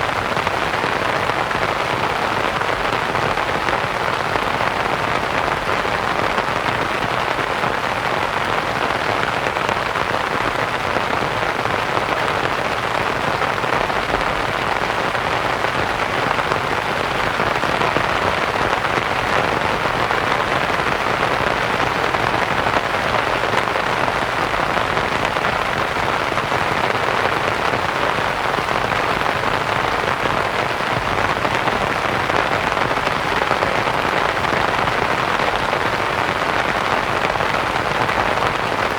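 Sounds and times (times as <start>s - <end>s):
rain pattering on a canvas tent: 0.0s - 38.9s
white-noise hiss: 0.0s - 38.9s.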